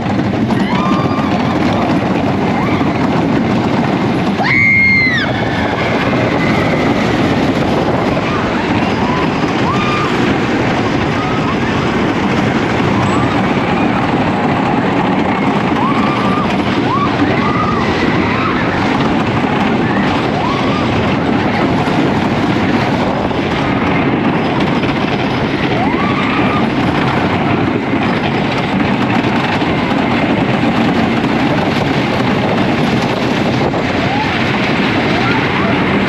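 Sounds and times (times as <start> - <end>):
riders whooping: 0.0 - 36.0
roller coaster rumbling on track: 0.0 - 36.0.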